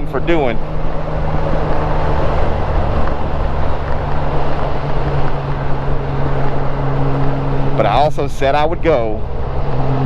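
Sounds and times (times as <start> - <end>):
motorcycle engine droning: 0.0 - 10.0
wind and road rush: 0.0 - 10.0.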